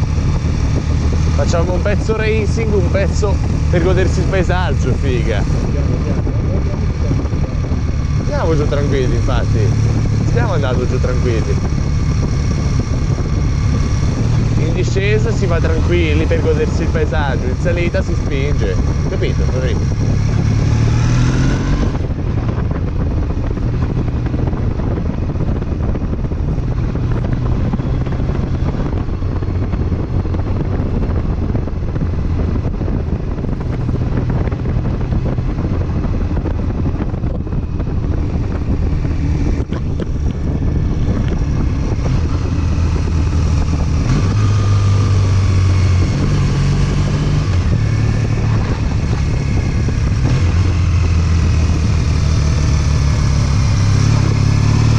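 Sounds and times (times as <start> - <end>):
motorcycle engine running: 0.0 - 54.9
wind buffeting microphone: 0.0 - 54.9.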